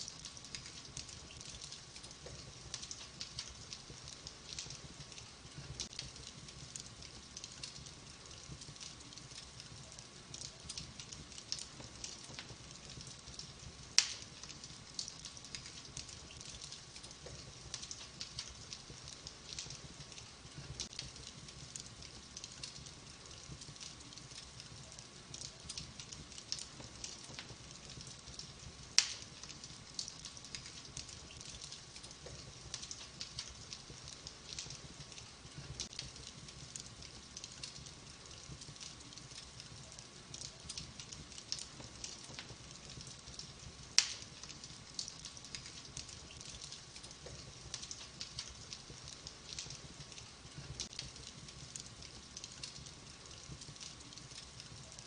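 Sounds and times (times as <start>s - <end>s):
loud pops from burning logs: 0.0s - 54.7s
wood fire crackling: 0.0s - 55.0s.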